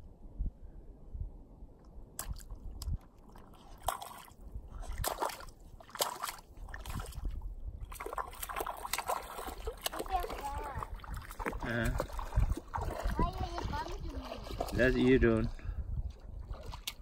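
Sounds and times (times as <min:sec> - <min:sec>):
footsteps splashing in shallow water: 0:02.2 - 0:17.0.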